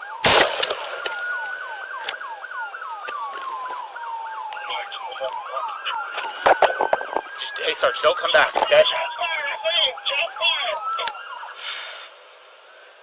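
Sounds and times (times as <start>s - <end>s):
police siren yelp: 0.0s - 12.2s
police siren wail: 0.0s - 13.0s.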